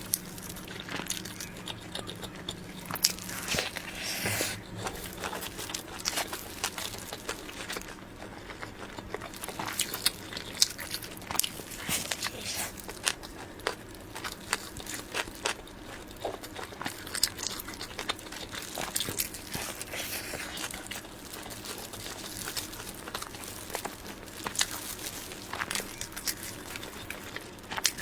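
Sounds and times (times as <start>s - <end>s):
food crackles: 0.0s - 28.0s.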